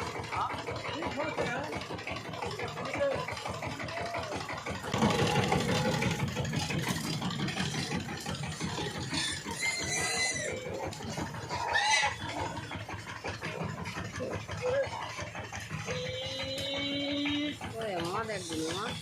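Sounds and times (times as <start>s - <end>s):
diesel tiller engine chugging: 0.0s - 19.0s.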